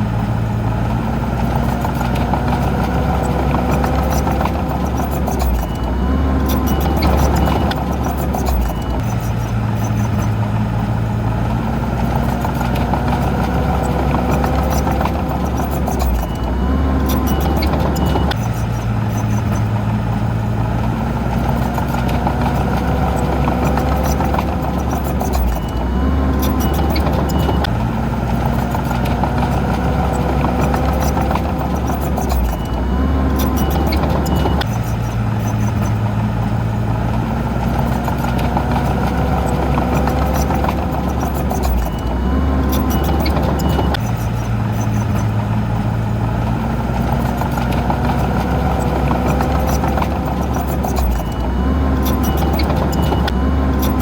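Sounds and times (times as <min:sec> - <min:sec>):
heavy diesel machinery engine: 0:00.0 - 0:54.0.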